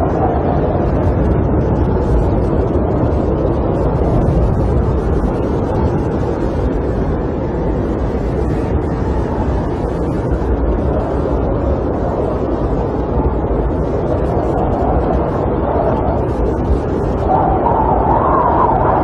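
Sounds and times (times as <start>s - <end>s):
wind buffeting a camper: 0.0s - 19.0s.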